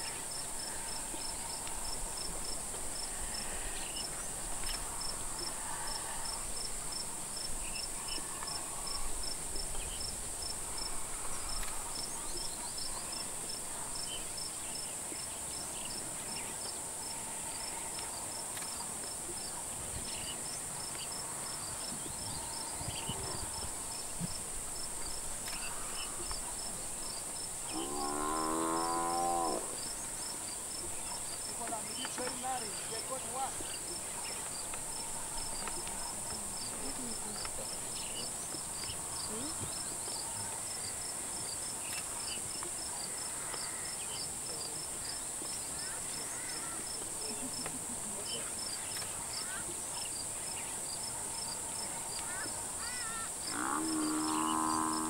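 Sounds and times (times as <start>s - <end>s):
insect chirping: 0.0s - 55.0s
insects droning: 0.0s - 55.0s.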